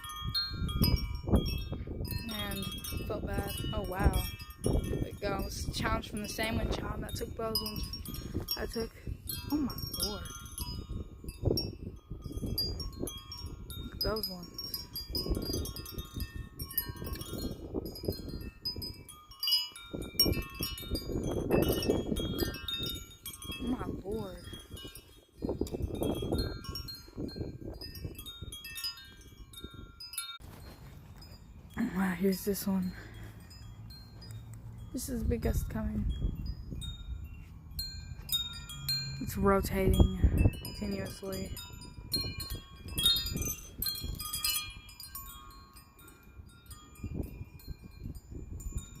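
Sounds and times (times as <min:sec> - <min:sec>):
wind buffeting microphone: 0:00.0 - 0:49.0
wind chimes ringing: 0:00.0 - 0:49.0.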